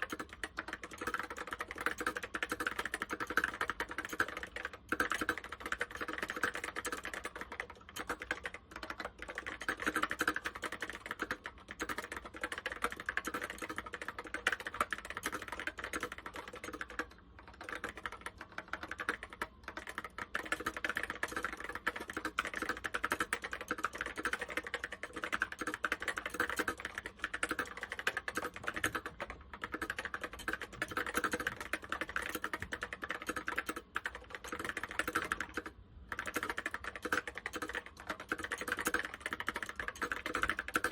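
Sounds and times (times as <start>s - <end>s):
keyboard typing clicks: 0.0s - 40.9s.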